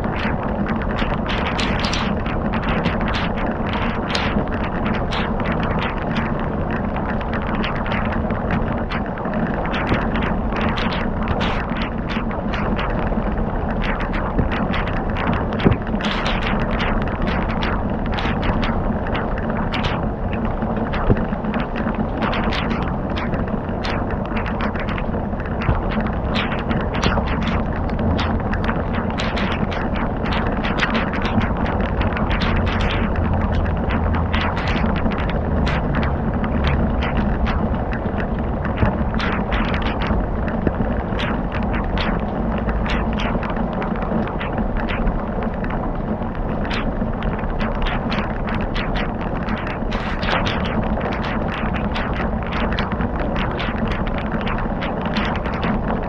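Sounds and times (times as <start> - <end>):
fire crackling and popping: 0.0 - 56.0
low rushing noise: 0.0 - 56.0.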